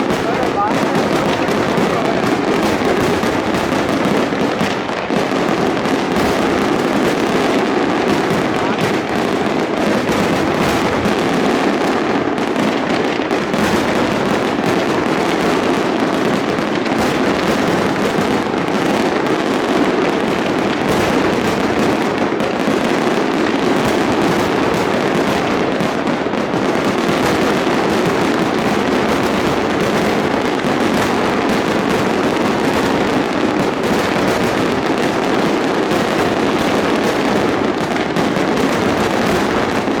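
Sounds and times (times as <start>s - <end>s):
fireworks bursts and crackles: 0.0s - 40.0s.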